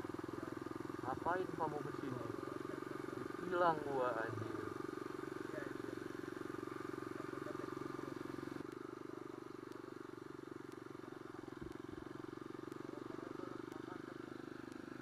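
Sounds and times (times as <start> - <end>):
motorcycle engine running at low speed: 0.0 - 15.0.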